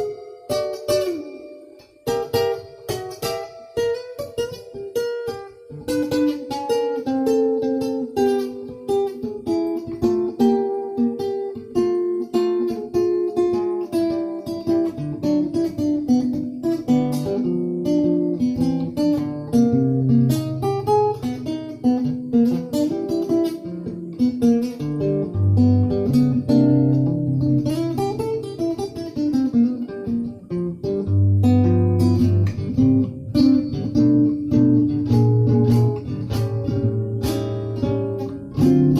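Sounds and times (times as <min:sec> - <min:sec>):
acoustic guitar plucking: 0:00.0 - 0:38.9.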